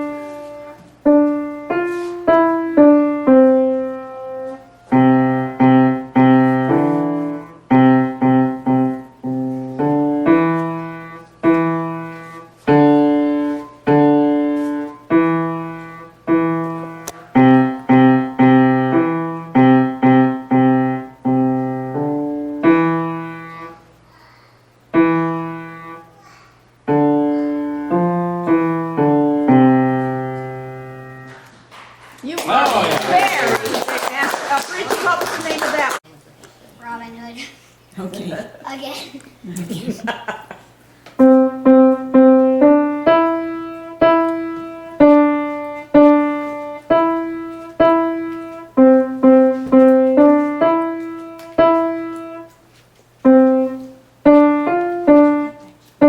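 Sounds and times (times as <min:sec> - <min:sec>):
child playing piano: 0:00.0 - 0:23.8, 0:24.9 - 0:31.5, 0:41.2 - 0:56.0.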